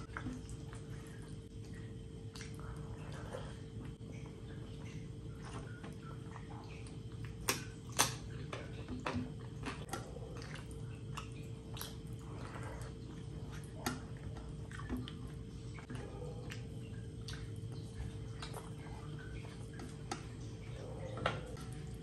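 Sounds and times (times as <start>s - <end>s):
faint steady hum: 0.0s - 22.0s
wet chewing: 0.0s - 22.0s.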